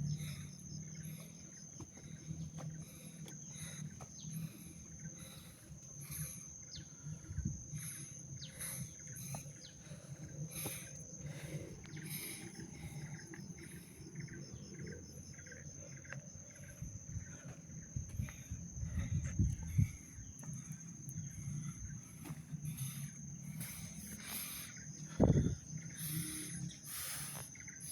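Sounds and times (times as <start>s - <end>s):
insects trilling: 0.0s - 27.9s.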